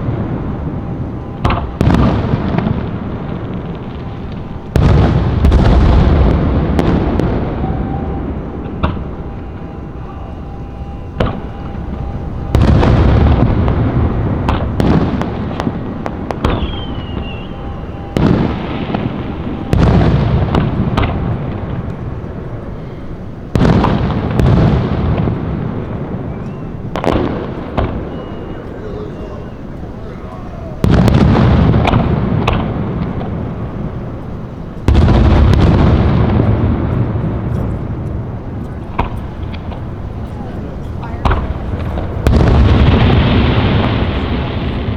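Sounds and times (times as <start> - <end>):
firework cracks: 0.0 - 28.6, 29.6 - 44.9
falling firework whistle: 0.0 - 44.9
fireworks booming: 0.0 - 44.9.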